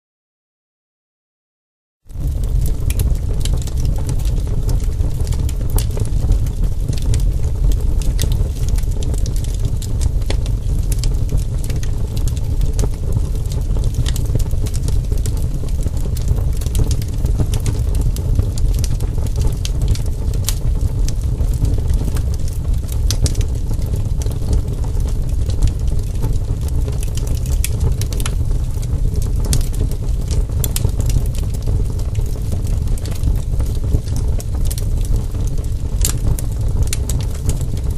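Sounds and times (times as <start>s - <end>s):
campfire crackling and popping: 2.1s - 37.9s.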